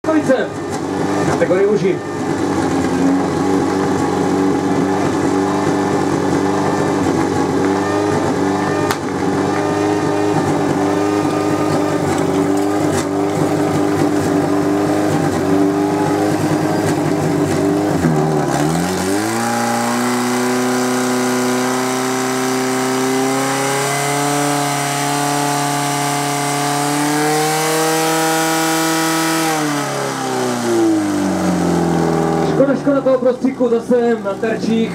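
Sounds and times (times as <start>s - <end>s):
fire pump engine running: 0.0s - 34.9s.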